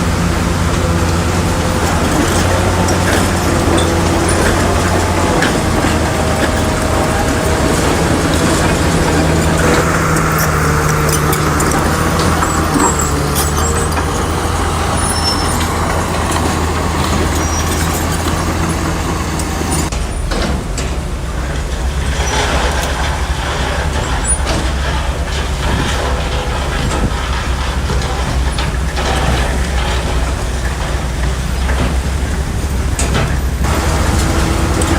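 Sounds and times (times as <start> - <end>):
heavy diesel engine running: 0.0 - 34.9
metallic clanks: 0.1 - 34.9.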